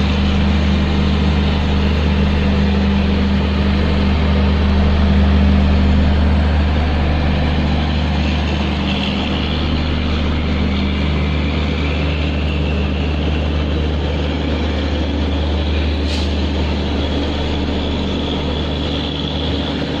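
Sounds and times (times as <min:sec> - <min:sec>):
low hum: 0:00.0 - 0:20.0
train wheels and carriage rumbling: 0:00.0 - 0:20.0.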